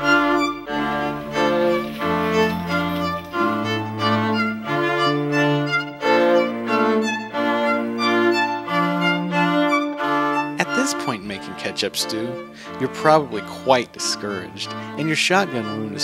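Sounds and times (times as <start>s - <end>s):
cello line: 0.0s - 16.0s
violin melody: 0.0s - 16.0s.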